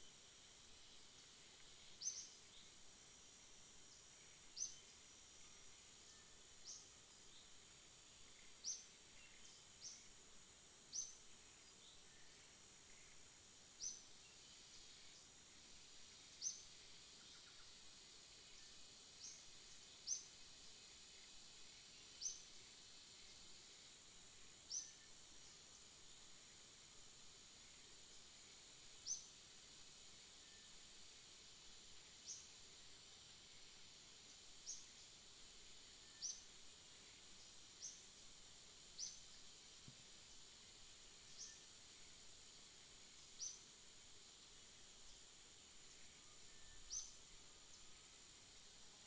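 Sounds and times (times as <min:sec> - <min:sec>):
faint high-pitched hiss: 0:00.0 - 0:49.0.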